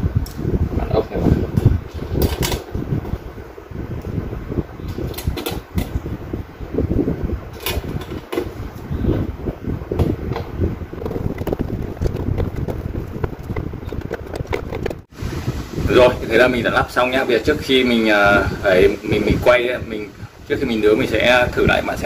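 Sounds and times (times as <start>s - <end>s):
steady rushing fan noise: 0.0s - 22.0s.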